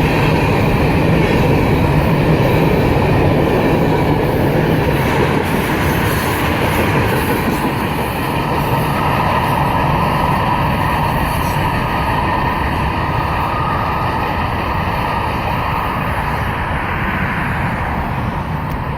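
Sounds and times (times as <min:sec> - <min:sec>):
train wheels on rails: 0:00.0 - 0:18.9.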